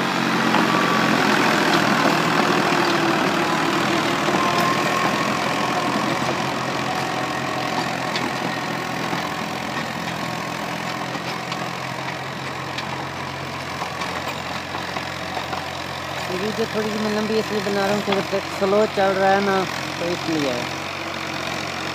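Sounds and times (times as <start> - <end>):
rotavator churning soil: 0.0 - 21.9
tractor diesel engine running: 0.0 - 21.9.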